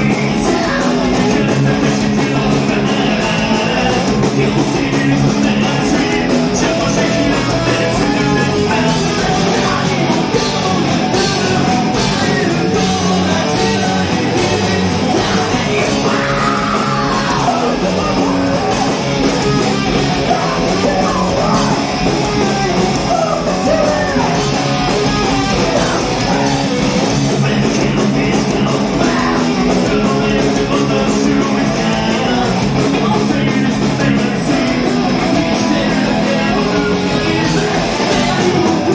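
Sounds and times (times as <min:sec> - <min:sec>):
person shouting singing: 0:00.0 - 0:26.8, 0:27.4 - 0:38.9
bass guitar: 0:00.0 - 0:38.9
distorted guitars: 0:00.0 - 0:38.9
drums: 0:00.0 - 0:38.9.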